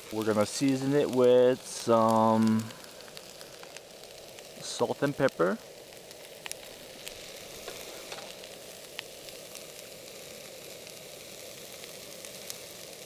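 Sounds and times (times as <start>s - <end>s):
small pops and crackles: 0.0s - 13.0s
vegetables sizzling in oil: 0.0s - 13.0s.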